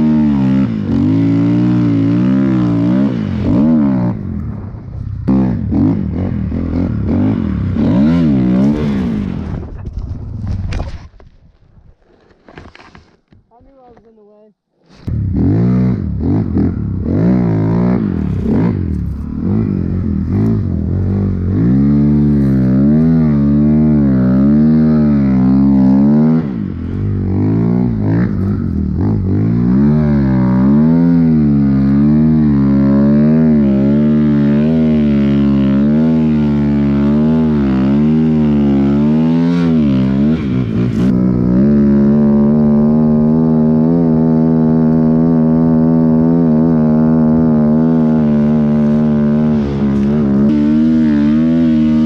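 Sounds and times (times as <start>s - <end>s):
motorbike engine revving: 0.0s - 10.3s, 14.9s - 52.0s.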